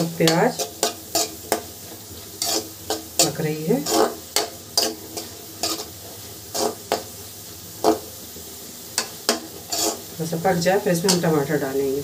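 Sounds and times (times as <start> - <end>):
metal spoon scraping a pan: 0.0 - 11.7
vegetables sizzling: 0.0 - 12.0.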